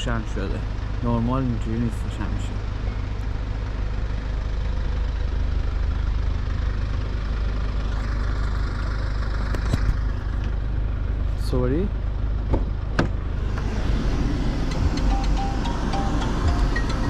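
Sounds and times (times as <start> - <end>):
road noise: 0.0 - 17.0
vehicle engine rumbling: 0.0 - 17.0.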